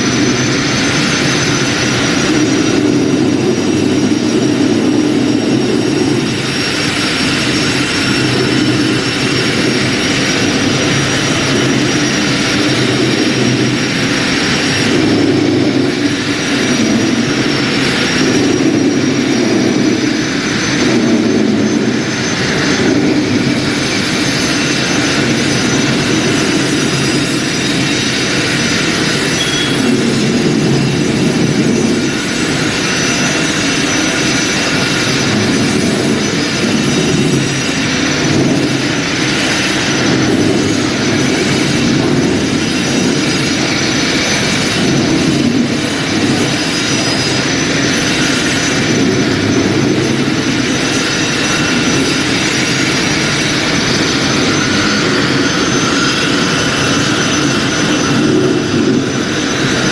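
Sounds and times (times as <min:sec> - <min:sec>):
concrete floor grinder grinding: 0:00.0 - 0:59.9.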